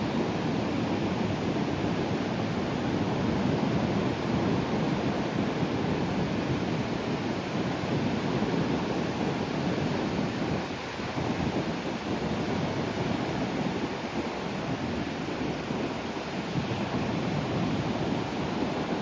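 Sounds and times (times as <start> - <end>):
sea waves breaking on shore: 0.0 - 19.0
wind noise on microphone: 0.0 - 19.0.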